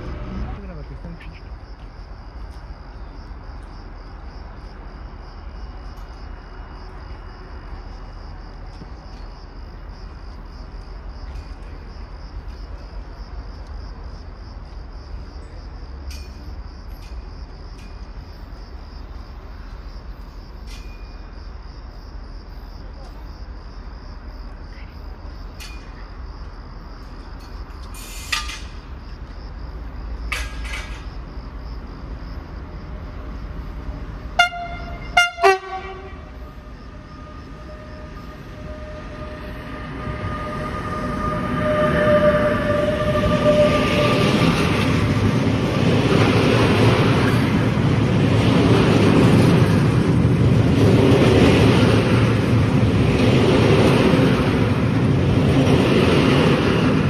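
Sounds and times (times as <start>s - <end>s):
insects trilling: 0.5s - 47.8s.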